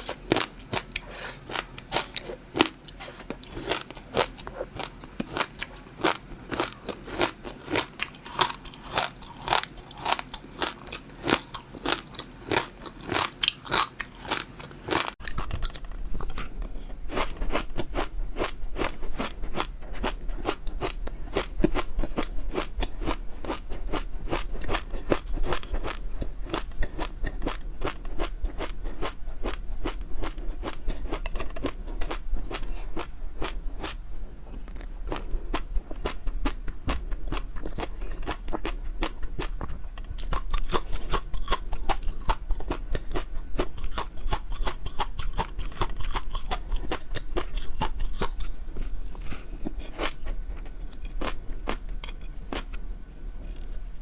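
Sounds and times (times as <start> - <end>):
chewing and crunching food: 0.0 - 52.8.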